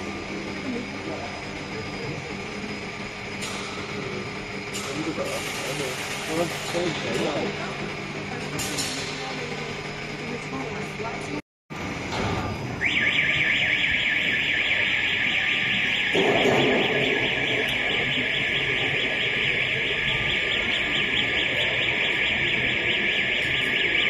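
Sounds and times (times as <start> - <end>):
high-pitched pulsing buzz: 0.0 - 24.0.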